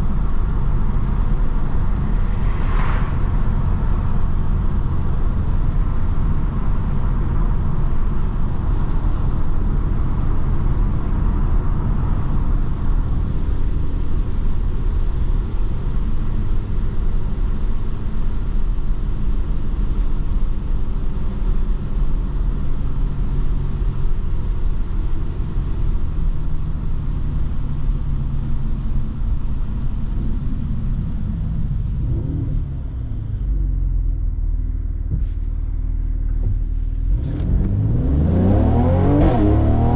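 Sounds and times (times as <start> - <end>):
car engine droning at cruise: 0.0 - 39.9
road rumble: 0.0 - 39.9.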